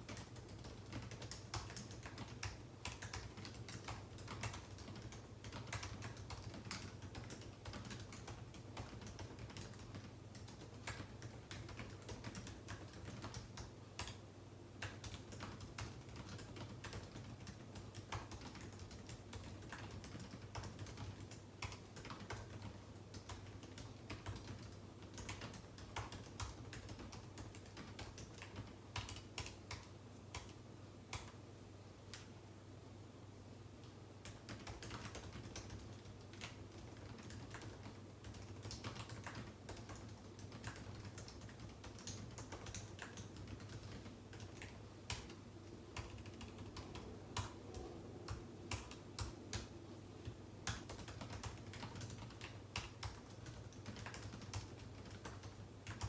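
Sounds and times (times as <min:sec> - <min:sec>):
keyboard typing clicks: 0:00.0 - 0:14.2, 0:14.8 - 0:30.5, 0:34.2 - 0:56.0
low steady hum: 0:00.0 - 0:56.0.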